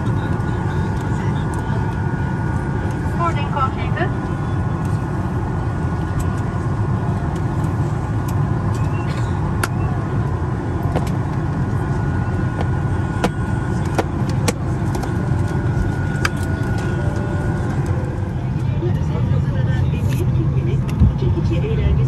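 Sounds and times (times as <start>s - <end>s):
vehicle rumble from inside: 0.0s - 22.0s.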